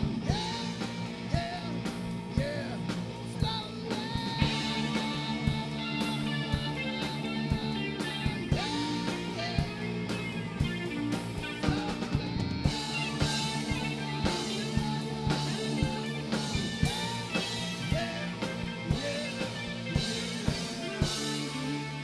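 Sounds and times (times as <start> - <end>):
rock music with guitar: 0.0 - 22.0
steady drum beat: 0.0 - 22.0.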